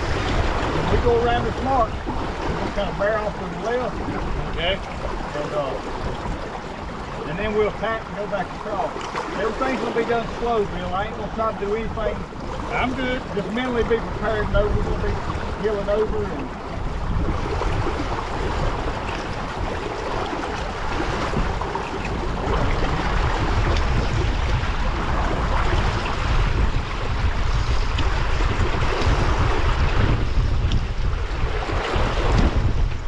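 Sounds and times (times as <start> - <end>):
water rushing past hull: 0.0 - 33.0
wind buffeting microphone: 0.0 - 33.0.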